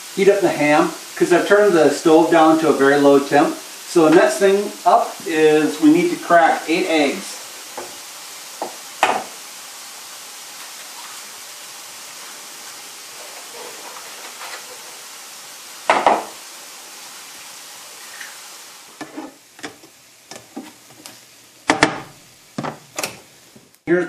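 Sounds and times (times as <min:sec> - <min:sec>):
food sizzling in a skillet: 0:00.0 - 0:24.0.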